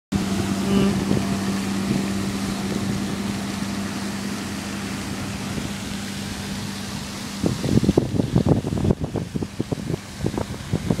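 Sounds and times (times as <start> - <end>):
fountain jet and falling spray: 0.2 - 11.0
low hum: 0.2 - 11.0.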